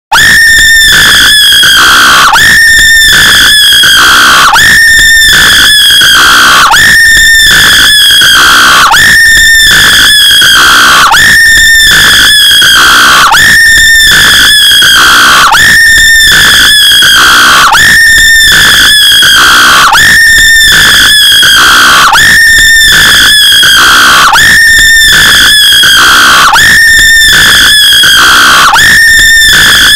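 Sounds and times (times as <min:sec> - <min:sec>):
high-pitched scream: 0:00.0 - 0:29.9.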